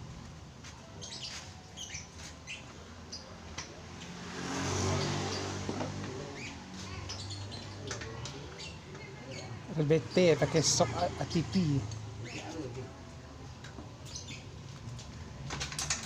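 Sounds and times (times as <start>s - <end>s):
small birds chirping: 0.8s - 13.0s, 13.7s - 14.9s.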